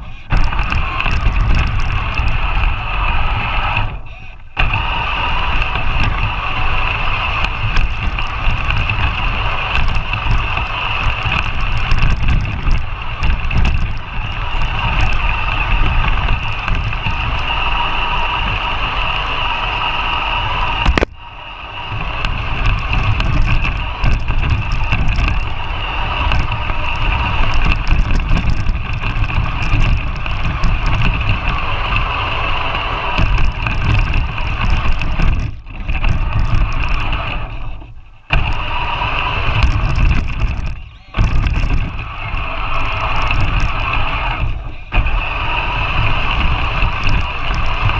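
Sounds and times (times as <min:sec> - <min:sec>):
chassis rumbling and rattling: 0:00.0 - 0:47.9
motor and gear whine: 0:00.0 - 0:47.9.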